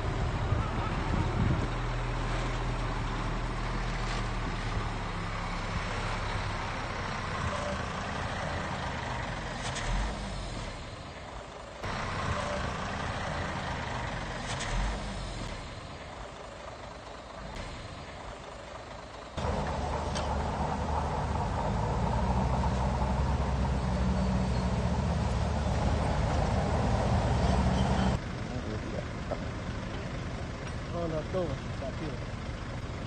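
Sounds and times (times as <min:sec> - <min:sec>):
diesel earthmoving machinery running: 0:00.0 - 0:33.0.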